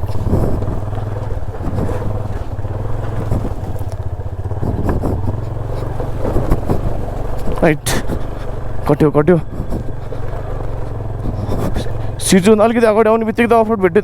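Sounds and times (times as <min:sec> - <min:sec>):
knocks and rattles: 0:00.0 - 0:12.7
motorcycle engine running: 0:00.0 - 0:14.0.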